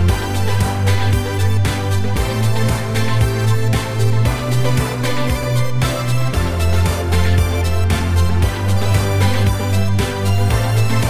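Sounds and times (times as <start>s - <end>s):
deep bass line: 0.0s - 11.0s
electronic beat music: 0.0s - 11.0s.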